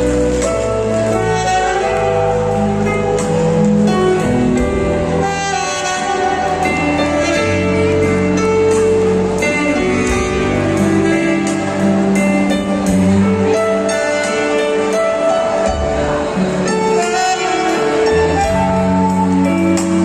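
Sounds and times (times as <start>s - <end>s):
slow instrumental music: 0.0s - 20.0s.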